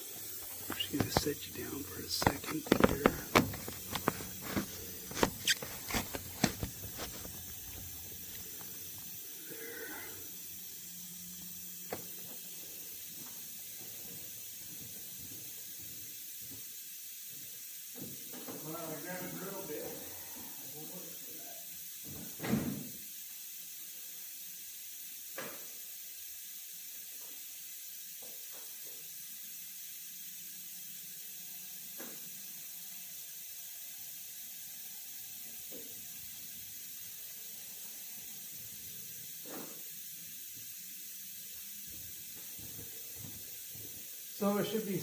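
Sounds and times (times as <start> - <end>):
background hiss: 0.0 - 45.0.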